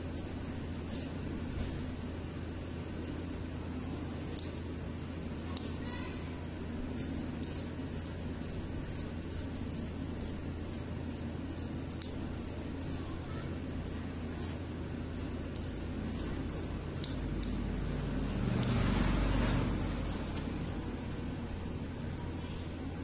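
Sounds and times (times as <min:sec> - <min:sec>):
wire scratching and ticking: 0:00.0 - 0:06.0, 0:06.9 - 0:20.5
steady low hum: 0:00.0 - 0:23.0.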